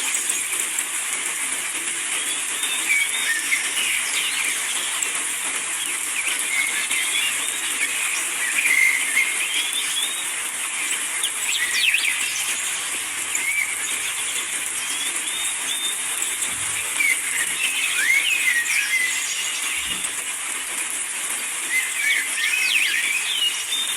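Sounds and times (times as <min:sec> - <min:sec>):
birds chirping: 0:00.0 - 0:23.9
rain hissing: 0:00.0 - 0:23.9.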